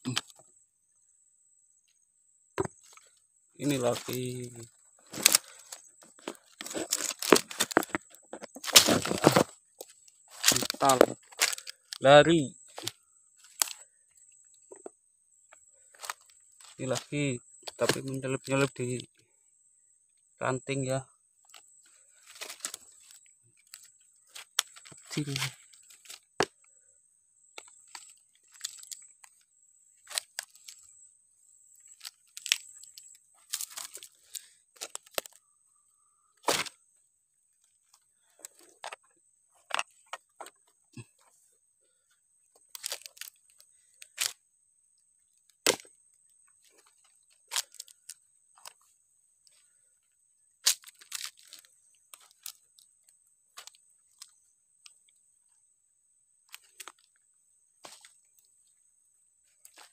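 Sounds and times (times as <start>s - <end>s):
dry leaves and twigs crackling: 2.6s - 19.0s, 20.4s - 26.8s, 27.4s - 31.0s, 31.7s - 55.2s, 56.4s - 59.9s.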